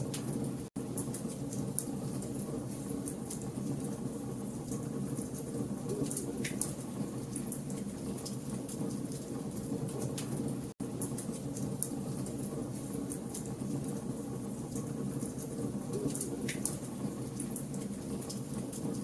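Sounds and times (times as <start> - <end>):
low rumble of flames: 0.0 - 19.0.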